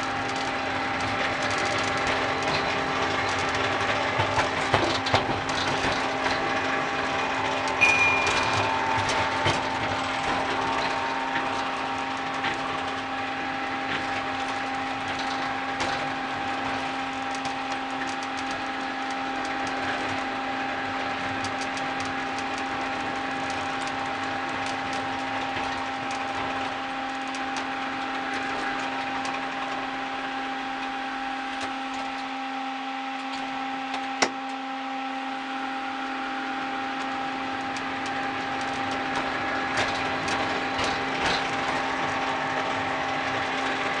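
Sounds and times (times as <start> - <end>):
wheels ticking and rattling: 0.0 - 32.2, 37.0 - 44.0
mini train motor whine: 0.0 - 44.0.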